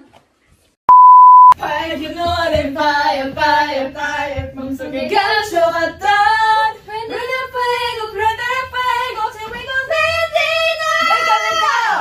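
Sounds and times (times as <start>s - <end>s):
woman singing unaccompanied: 1.6s - 11.4s.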